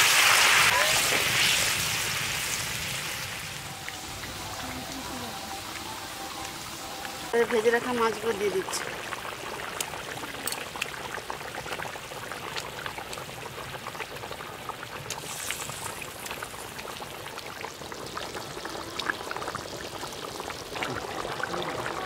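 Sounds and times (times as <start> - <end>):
curry boiling with bubbling hiss: 0.0 - 22.0.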